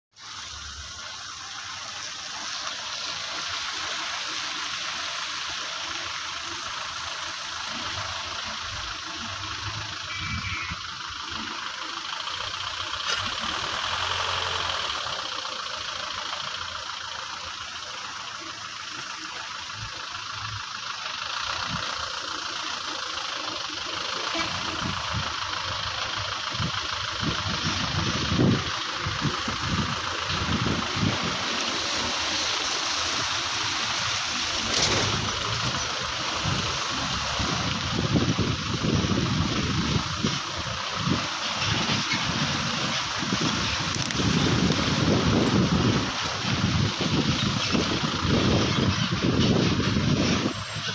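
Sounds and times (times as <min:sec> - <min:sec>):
road and wind noise: 0:00.1 - 0:50.9
low engine hum: 0:00.2 - 0:50.9.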